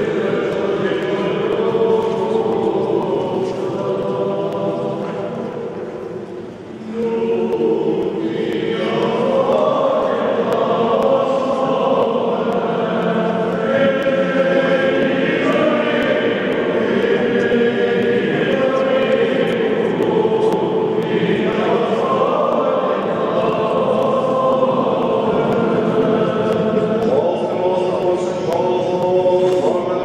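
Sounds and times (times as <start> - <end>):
group singing a chant: 0.0 - 30.0.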